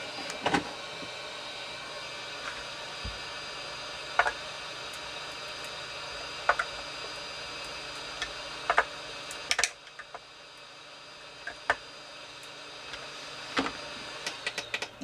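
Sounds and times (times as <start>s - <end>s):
hot air tool hissing: 0.0s - 15.0s.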